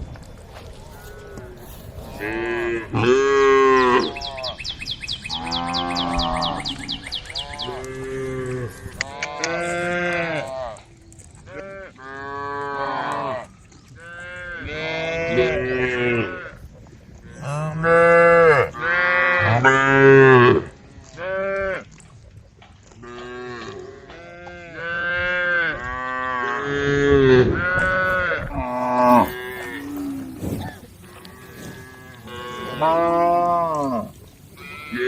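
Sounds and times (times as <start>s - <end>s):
cows mooing: 0.9s - 4.6s, 5.3s - 10.8s, 11.5s - 16.6s, 17.3s - 21.9s, 23.0s - 35.0s.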